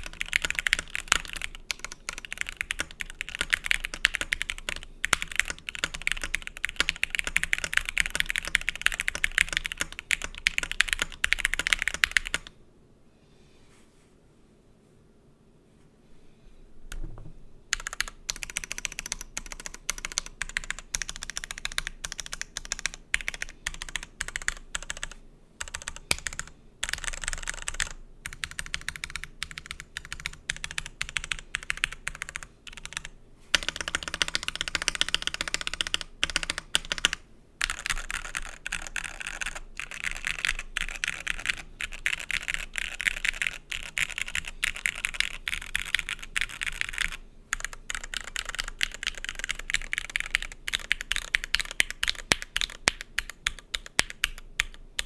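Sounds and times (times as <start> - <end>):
typing on mechanical keyboard: 0.0 - 12.5, 17.7 - 55.0.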